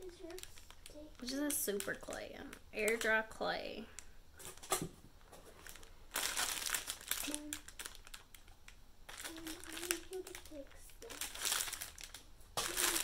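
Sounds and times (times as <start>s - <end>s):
plastic packaging crinkling: 0.0s - 3.3s, 4.0s - 13.0s.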